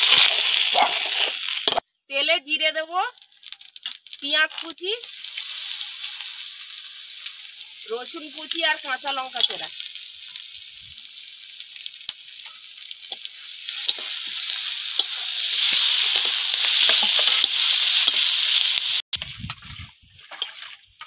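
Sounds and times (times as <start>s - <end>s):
vegetables sizzling in hot oil: 0.0s - 1.8s, 2.5s - 21.0s.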